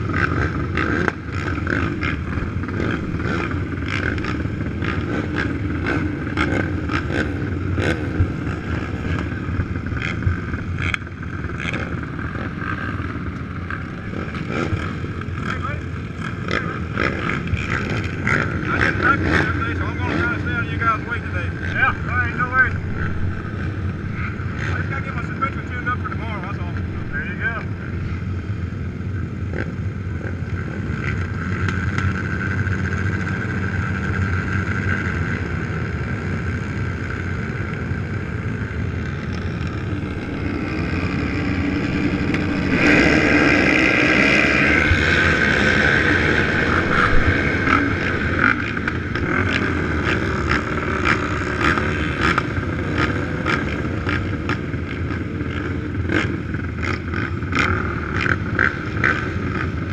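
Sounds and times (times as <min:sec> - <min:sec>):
engine crackles: 0:00.0 - 0:59.9
quad engines droning: 0:00.0 - 0:59.9.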